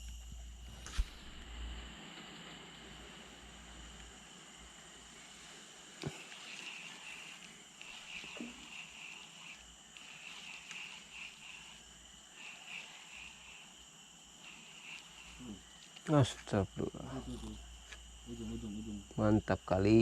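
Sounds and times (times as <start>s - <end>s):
crickets trilling: 0.0s - 20.0s
thin high hum: 0.0s - 20.0s.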